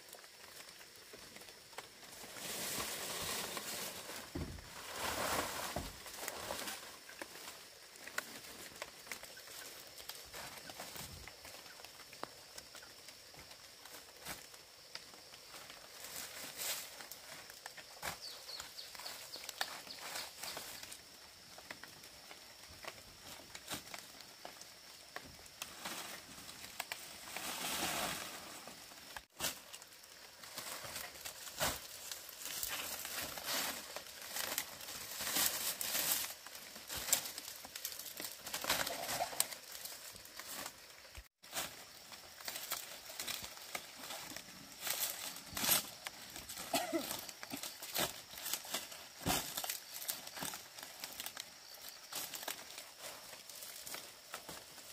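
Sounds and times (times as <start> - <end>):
dry thatch rustling and crackling: 0.0 - 54.9.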